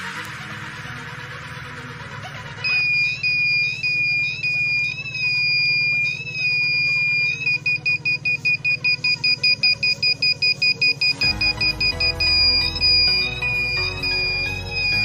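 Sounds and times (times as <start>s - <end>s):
piezo buzzer tone and beeps: 2.6s - 15.0s.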